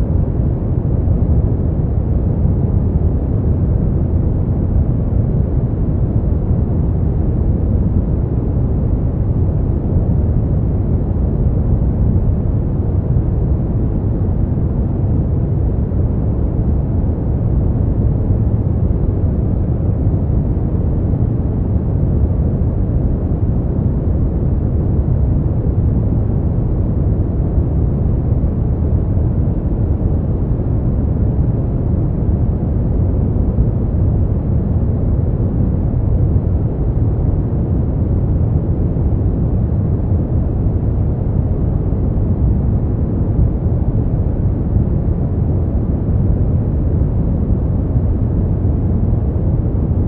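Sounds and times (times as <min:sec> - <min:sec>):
deep low rumbling noise: 0:00.0 - 0:50.0
deep white noise: 0:00.0 - 0:50.0.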